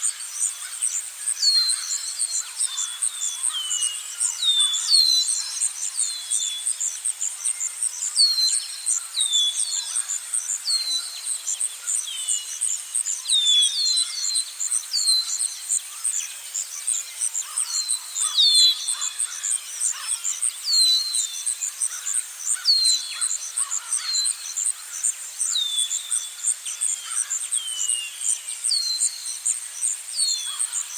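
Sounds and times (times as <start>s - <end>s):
insects pulsing chorus: 0.0s - 30.9s.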